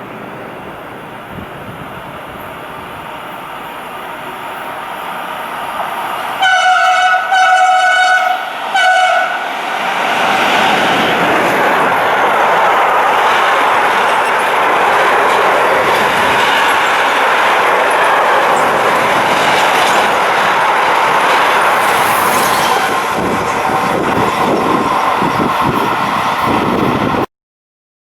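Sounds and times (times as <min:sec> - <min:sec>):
freight train wheels on rails: 0:00.0 - 0:27.3.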